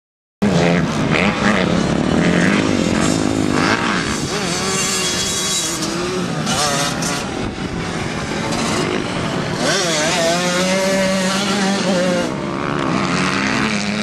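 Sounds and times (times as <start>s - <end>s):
dirt bike engine revving: 0.4s - 14.0s.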